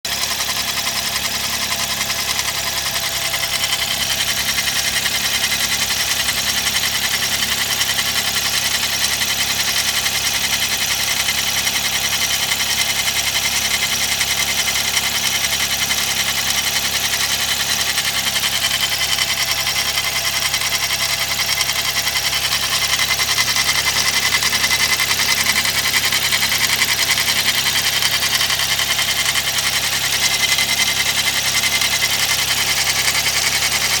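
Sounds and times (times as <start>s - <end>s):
car engine idling: 0.0s - 34.0s
fast mechanical ticking clatter: 0.1s - 34.0s.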